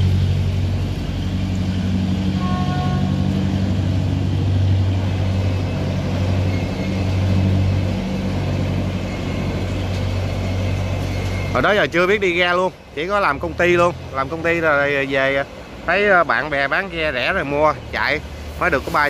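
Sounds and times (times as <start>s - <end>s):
boat diesel engine droning: 0.0s - 19.0s.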